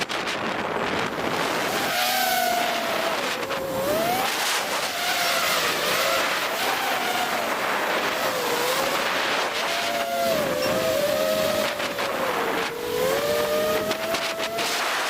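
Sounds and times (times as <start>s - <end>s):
drone motors whining: 0.0s - 15.0s
propeller air rush: 0.0s - 15.0s.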